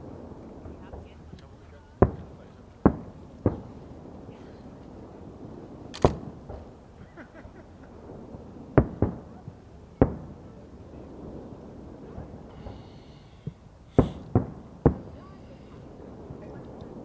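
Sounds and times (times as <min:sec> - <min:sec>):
fireworks bangs: 0:00.1 - 0:07.0, 0:07.9 - 0:17.0.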